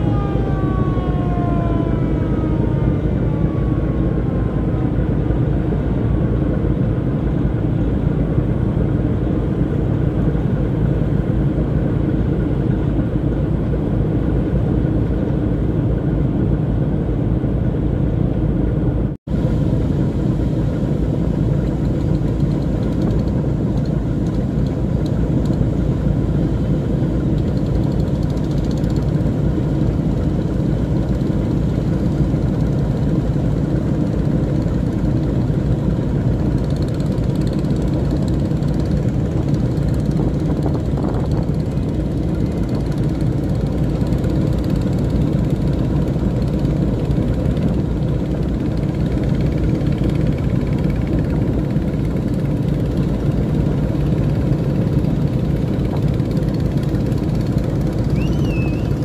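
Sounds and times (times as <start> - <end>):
boat engine humming: 0.0 - 59.0.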